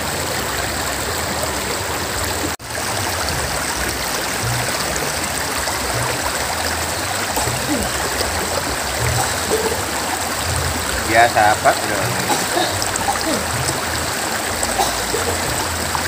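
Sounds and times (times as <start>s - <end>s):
river flowing over rocks: 0.0s - 16.0s.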